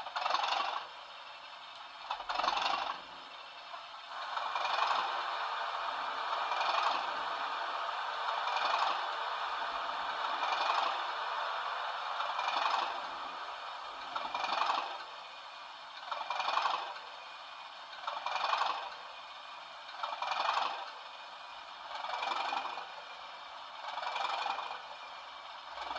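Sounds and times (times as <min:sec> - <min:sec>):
thin rattly diesel engine from speaker: 0:00.0 - 0:25.9.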